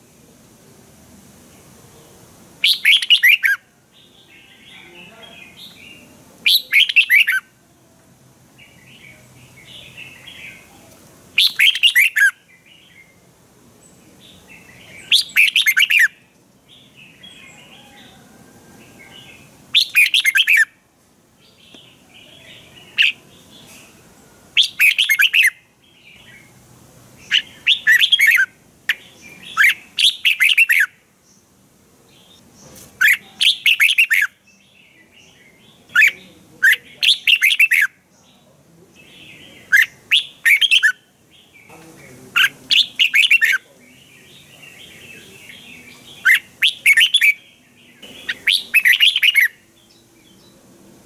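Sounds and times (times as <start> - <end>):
faint bird chirping: 1.4 - 51.0
bird singing high phrases: 1.5 - 7.6, 8.6 - 20.8, 21.4 - 26.6, 27.2 - 31.5, 32.1 - 50.7.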